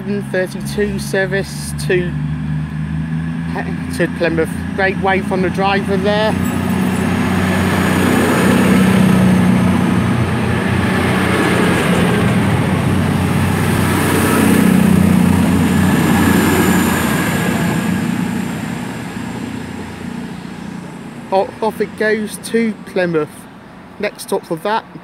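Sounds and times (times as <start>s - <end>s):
diesel train engines humming: 0.0s - 25.0s.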